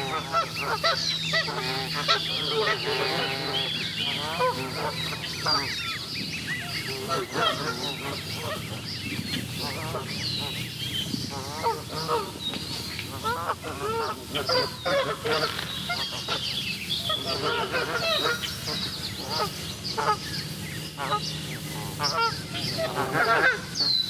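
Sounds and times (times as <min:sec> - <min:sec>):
geese honking: 0:00.0 - 0:24.0
low background hum: 0:00.0 - 0:24.0.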